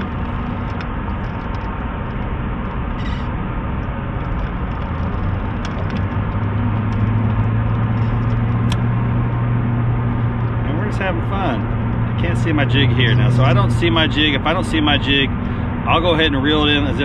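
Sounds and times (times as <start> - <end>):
boat motor humming: 0.0 - 15.8
constant rushing noise: 0.0 - 17.0.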